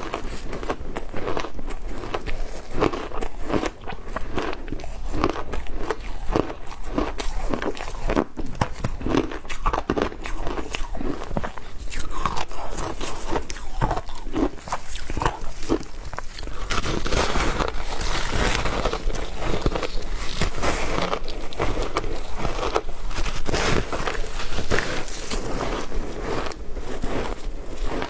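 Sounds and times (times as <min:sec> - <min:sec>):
crunching and chewing ice: 0:00.0 - 0:28.0.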